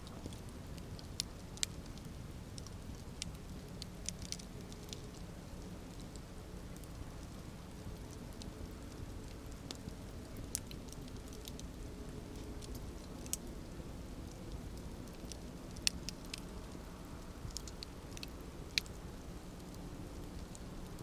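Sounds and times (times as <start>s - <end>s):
campfire rumble: 0.0s - 21.0s
wood crackling and popping: 0.0s - 21.0s.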